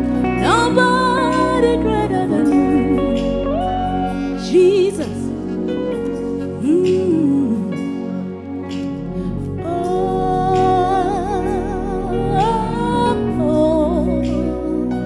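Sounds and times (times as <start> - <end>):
slow gospel worship music: 0.0 - 15.0.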